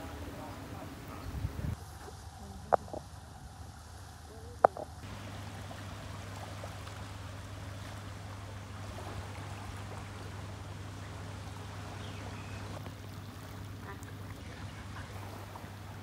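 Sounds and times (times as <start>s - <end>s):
low steady hum: 0.0s - 16.0s
steady outdoor hiss: 0.0s - 16.0s.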